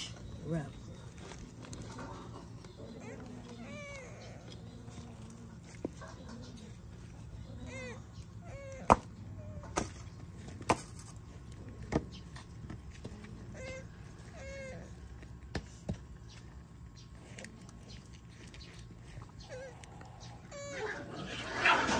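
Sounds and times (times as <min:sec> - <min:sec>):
tortoise squeaking cries: 0:00.0 - 0:21.9.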